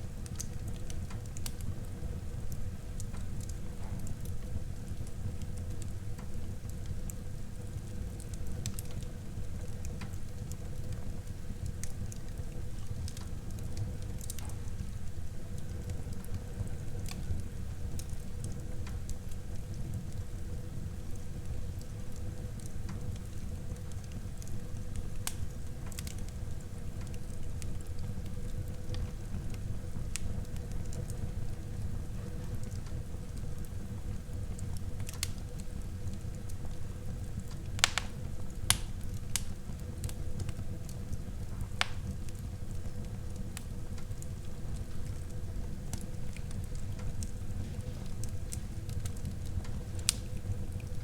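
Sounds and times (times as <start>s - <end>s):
wood fire crackling: 0.0s - 51.0s
fire pops: 0.2s - 51.0s.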